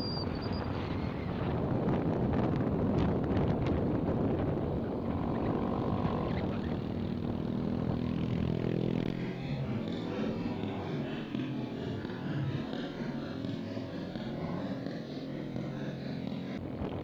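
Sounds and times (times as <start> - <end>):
wind on microphone: 0.6 - 14.4
motorcycle engine running: 2.1 - 17.0.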